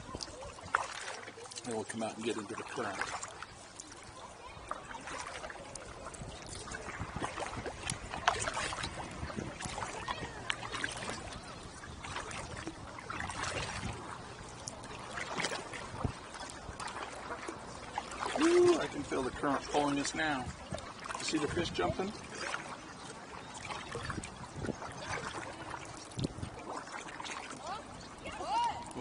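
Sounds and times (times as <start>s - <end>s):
kayak paddles splashing water: 0.0s - 29.0s.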